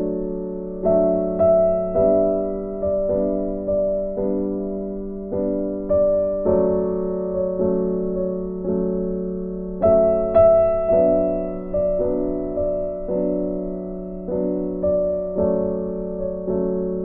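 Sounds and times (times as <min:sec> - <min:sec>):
slow soft piano music: 0:00.0 - 0:17.0.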